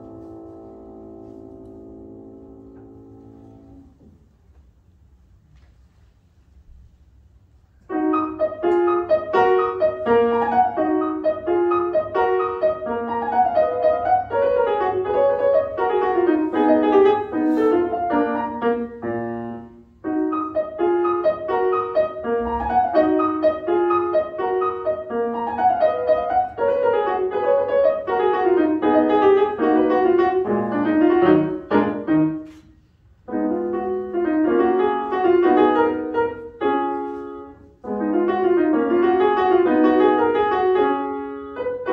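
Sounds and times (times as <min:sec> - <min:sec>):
solo classical piano: 0:00.0 - 0:41.9.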